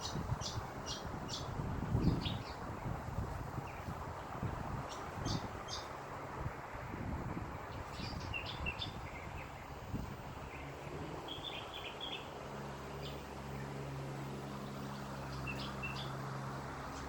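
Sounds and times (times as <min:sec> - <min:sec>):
small birds chirping: 0:00.0 - 0:06.3, 0:07.6 - 0:17.0
low motor hum: 0:00.0 - 0:17.0
wind rumble on microphone: 0:00.0 - 0:17.0.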